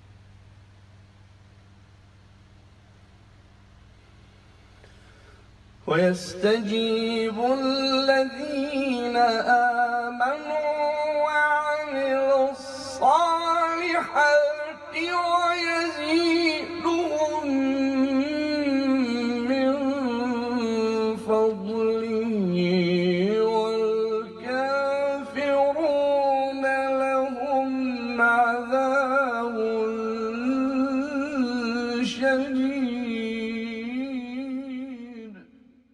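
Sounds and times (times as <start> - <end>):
man reciting melodically: 5.8 - 35.6.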